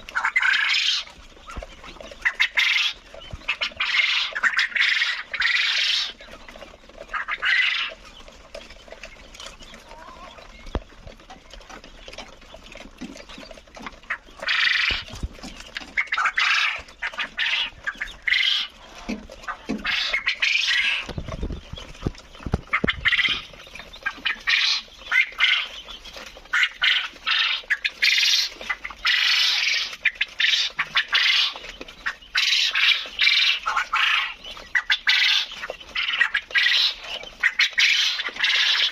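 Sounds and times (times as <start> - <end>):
quail shrill chattering calls: 0.0 - 38.9.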